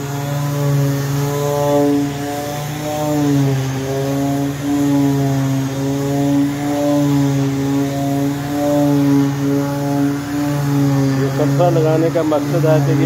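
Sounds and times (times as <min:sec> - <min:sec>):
electric sander on wood: 0:00.0 - 0:13.0.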